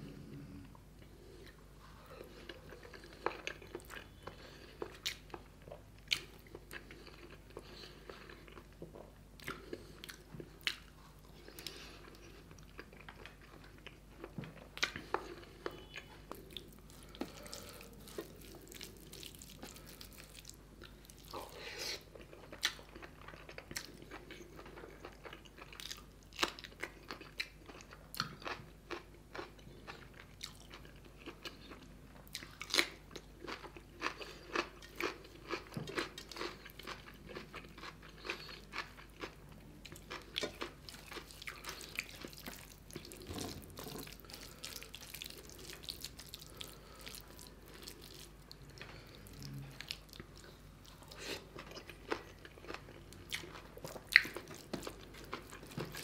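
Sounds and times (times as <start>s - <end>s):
man chewing with wet mouth clicks: 0.6s - 56.0s.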